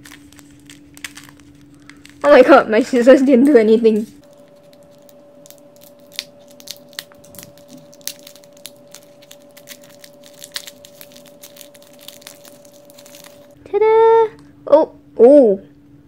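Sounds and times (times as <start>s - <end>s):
plastic wrapper crinkling: 0.0s - 13.6s
faint steady hum: 0.0s - 16.0s.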